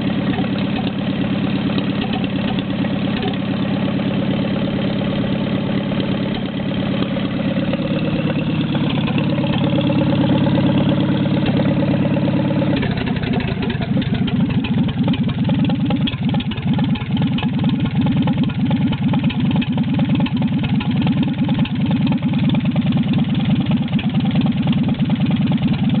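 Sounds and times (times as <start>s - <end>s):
tractor engine running unmuffled: 0.0s - 26.0s.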